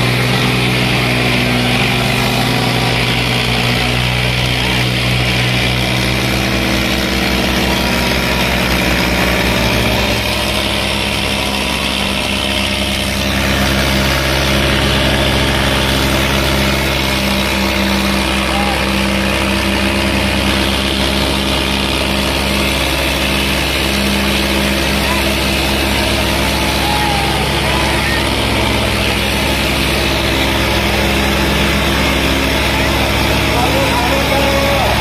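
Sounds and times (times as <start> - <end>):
tractor diesel engines droning: 0.0 - 35.0.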